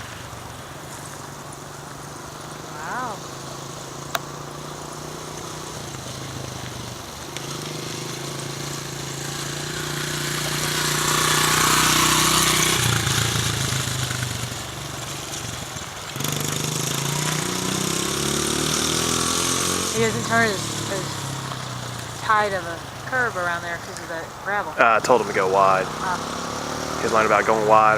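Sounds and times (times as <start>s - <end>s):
dirt bike engine running: 0.0s - 27.9s.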